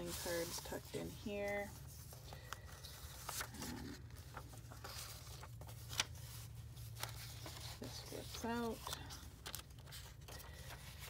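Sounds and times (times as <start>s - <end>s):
paper and card rustling: 0.0s - 11.0s.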